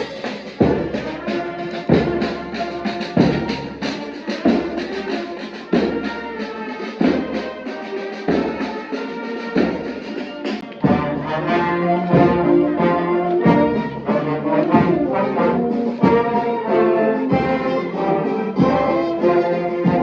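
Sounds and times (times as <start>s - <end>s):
brass band playing a march: 0.0s - 20.0s
heavy drum beat: 0.0s - 20.0s.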